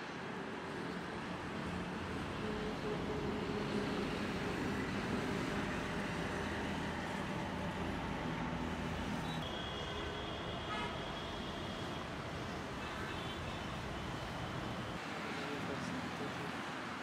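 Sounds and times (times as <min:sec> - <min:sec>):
highway traffic hum: 0:00.0 - 0:17.0.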